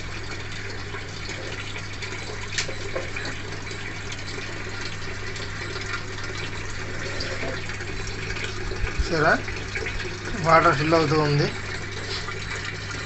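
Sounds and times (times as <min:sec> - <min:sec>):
water pouring into washing machine: 0:00.0 - 0:13.0.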